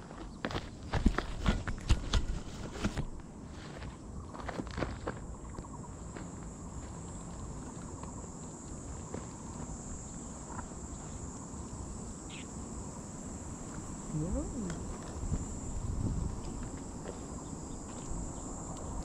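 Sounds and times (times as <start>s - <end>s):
insects trilling: 3.2s - 19.0s.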